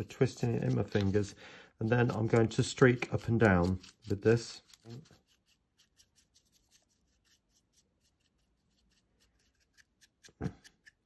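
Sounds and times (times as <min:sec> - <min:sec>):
dry paintbrush scratching plastic: 0:00.0 - 0:11.0.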